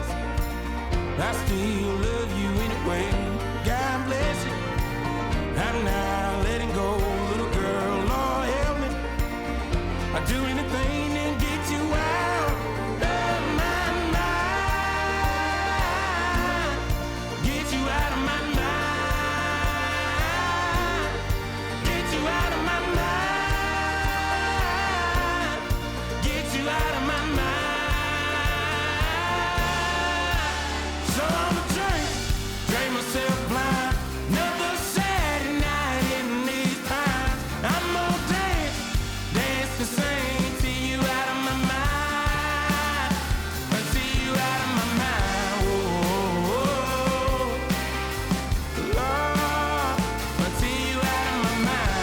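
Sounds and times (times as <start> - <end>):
guitars: 0.0 - 52.0
rock song with singing: 0.0 - 52.0
steady drum beat: 0.0 - 52.0.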